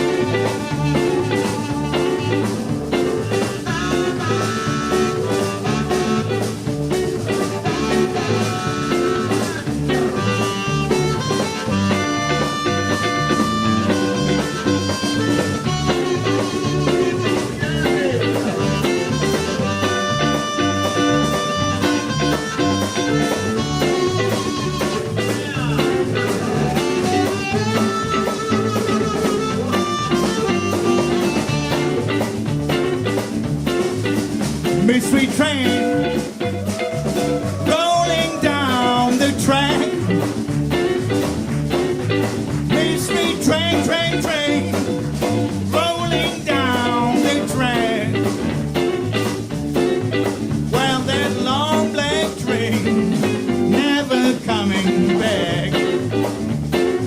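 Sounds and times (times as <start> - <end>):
blues guitar: 0.0 - 57.0
drums playing steady beat: 0.0 - 57.0.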